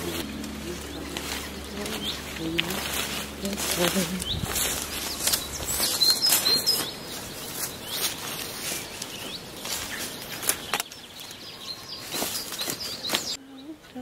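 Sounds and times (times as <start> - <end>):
willow rods rustling and scraping: 0.0 - 13.4
bird chirps: 0.0 - 13.8.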